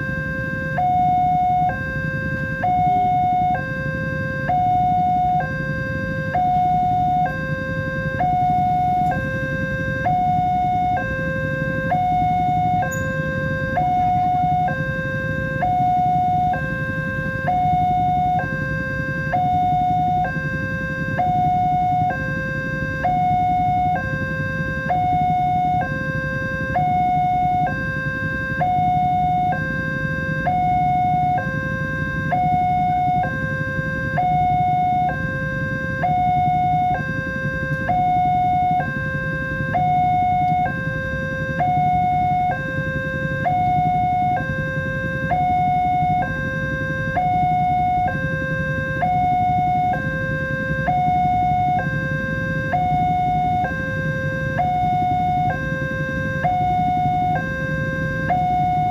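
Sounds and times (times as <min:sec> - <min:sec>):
two-tone crossing alarm: 0:00.0 - 0:58.9.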